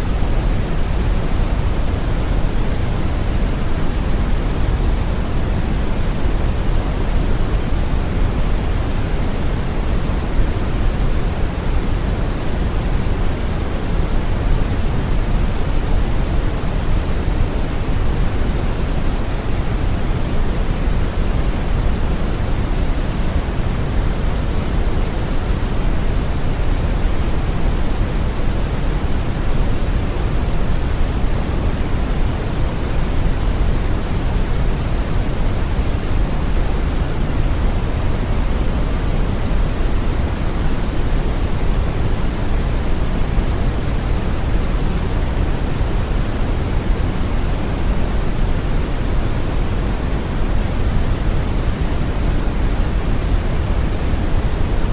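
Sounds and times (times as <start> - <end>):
brown noise hiss: 0.0 - 54.9.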